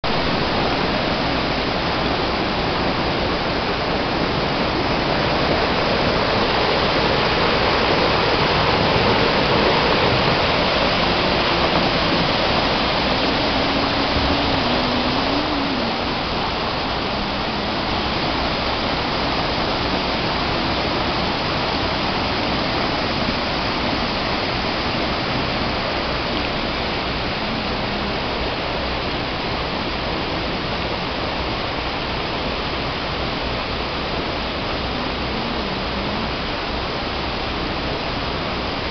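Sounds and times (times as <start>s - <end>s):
floodwater rushing over rocks: 0.0s - 38.9s.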